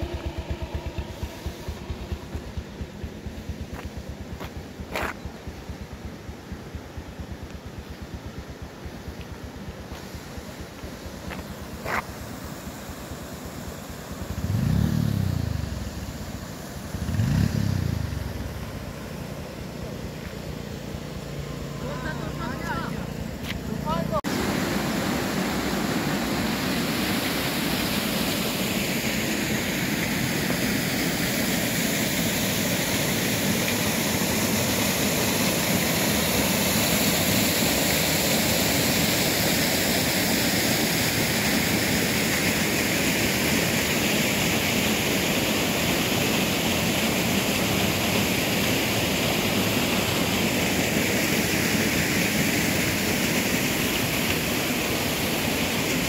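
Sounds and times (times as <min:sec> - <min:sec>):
river water rushing: 0:09.0 - 0:56.0.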